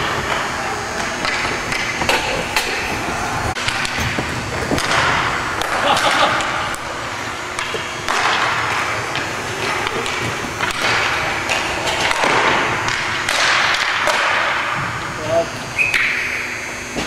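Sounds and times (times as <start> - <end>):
hockey sticks and puck clacking: 0.0 - 14.9, 15.8 - 16.4.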